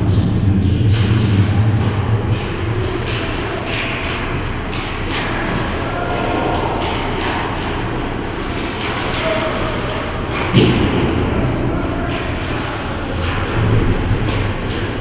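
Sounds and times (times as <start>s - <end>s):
din of hockey play: 0.0s - 15.0s
distant voices: 0.0s - 15.0s.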